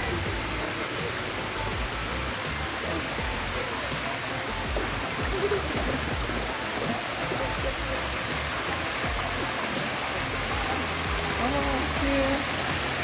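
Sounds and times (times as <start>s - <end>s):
faint background music: 0.0s - 13.0s
waterfall rushing over rocks: 0.0s - 13.0s.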